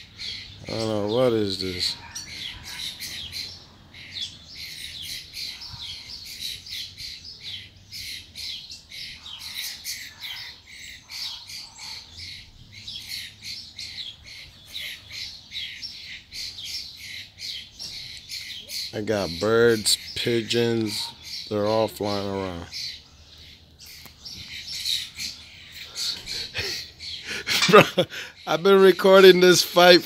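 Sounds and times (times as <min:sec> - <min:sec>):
crowd of birds calling: 0:00.0 - 0:30.0.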